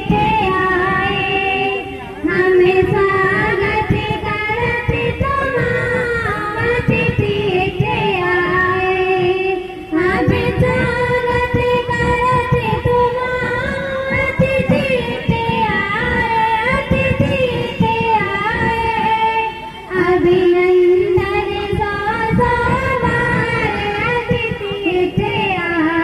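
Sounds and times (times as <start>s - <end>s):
girls singing: 0.0s - 26.0s.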